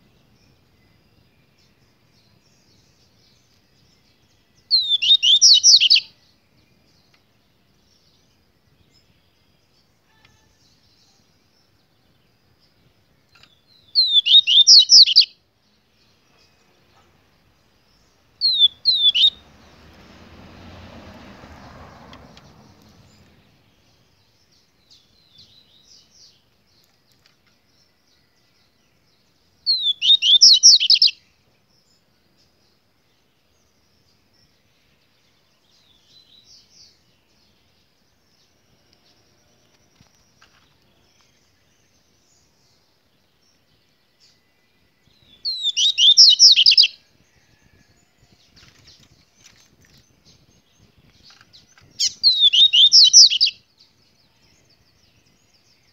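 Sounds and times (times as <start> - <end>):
soft bird chirps: 0.0 - 20.2, 22.1 - 55.9
songbird singing sweeping notes: 0.0 - 28.0, 28.7 - 55.9.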